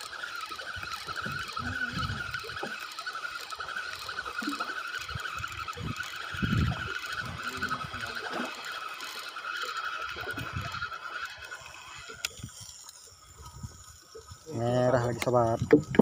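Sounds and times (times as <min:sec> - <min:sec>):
fishing reel gear whirring: 0:00.0 - 0:16.0.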